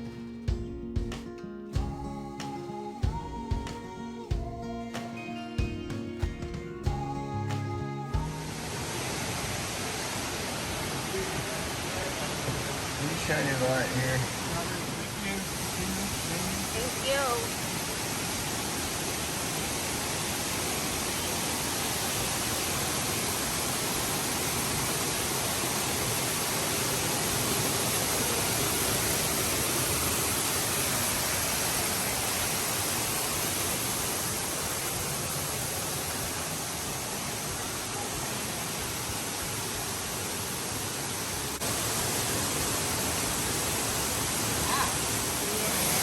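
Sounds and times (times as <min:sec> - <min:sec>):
waterfall rushing: 0:07.0 - 0:46.0.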